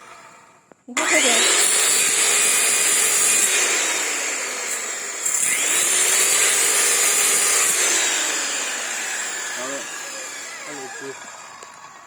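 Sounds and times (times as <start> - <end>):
power tool motor whine: 0.0 - 12.0.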